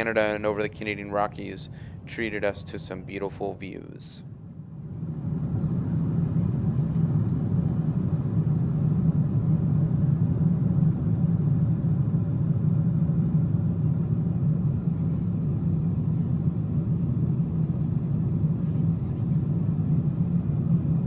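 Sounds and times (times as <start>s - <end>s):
airplane cabin engine and airflow noise: 0.0s - 21.0s.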